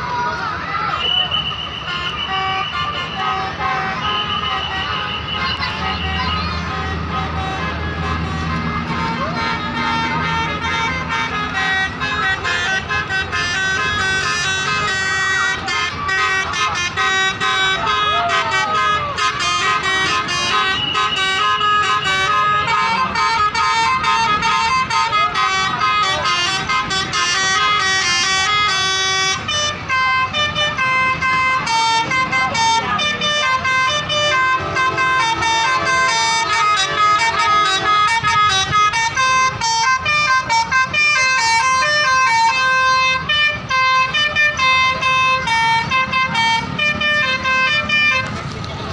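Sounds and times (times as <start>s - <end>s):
bus horn playing melody: 1.0s - 48.9s.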